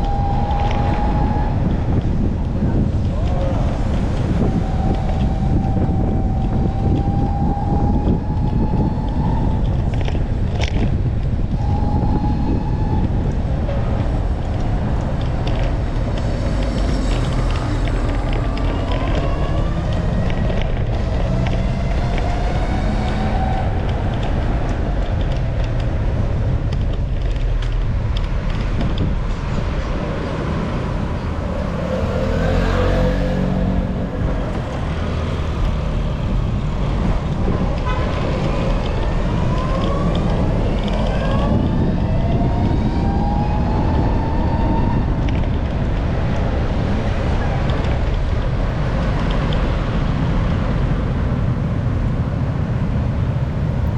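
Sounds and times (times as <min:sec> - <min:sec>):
passing vehicle engines: 0:00.0 - 0:53.9
wind rumbling on microphone: 0:00.0 - 0:53.9.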